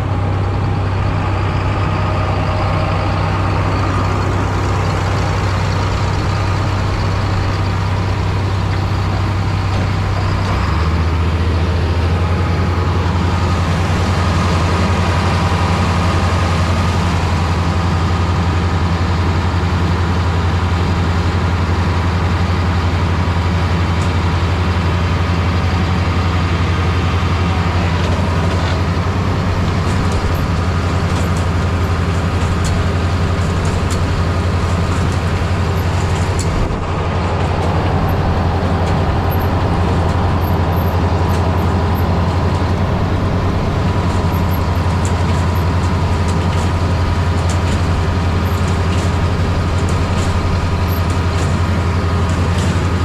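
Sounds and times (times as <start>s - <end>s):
diesel harvester engine under load: 0.0s - 53.0s.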